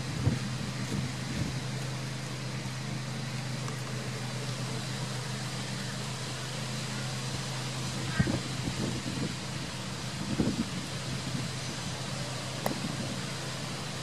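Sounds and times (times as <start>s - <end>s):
constant hiss: 0.0s - 14.0s
low mechanical motor hum: 0.0s - 14.0s.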